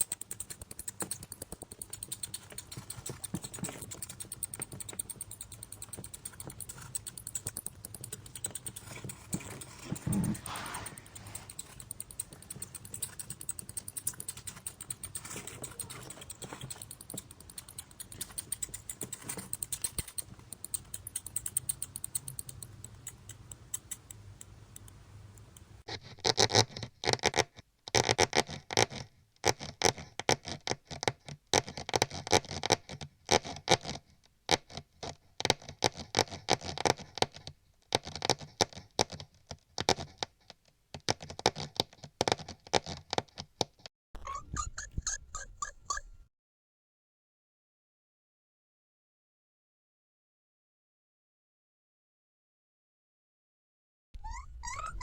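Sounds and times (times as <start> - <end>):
mouse feet pattering and scratching: 0.0 - 46.1.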